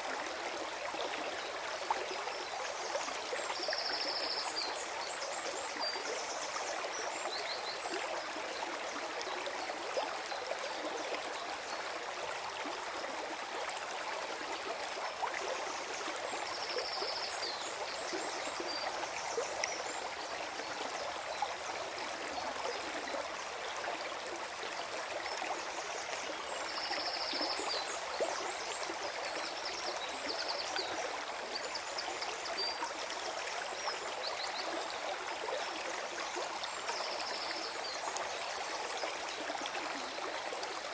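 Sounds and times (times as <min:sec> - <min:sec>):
stream flowing and gurgling: 0:00.0 - 0:40.9.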